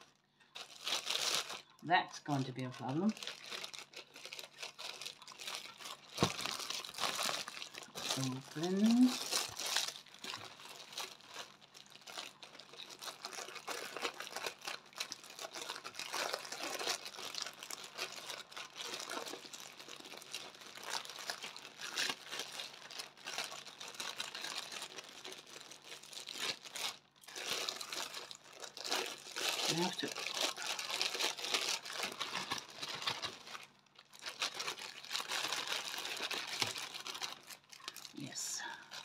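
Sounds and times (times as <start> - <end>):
packaging crinkling and rustling: 0.0 - 39.0
packaging tearing: 0.0 - 39.0.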